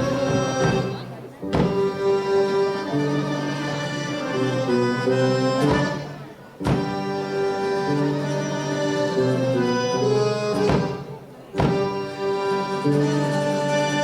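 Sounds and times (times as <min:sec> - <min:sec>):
accordion playing folk tune: 0:00.0 - 0:14.0.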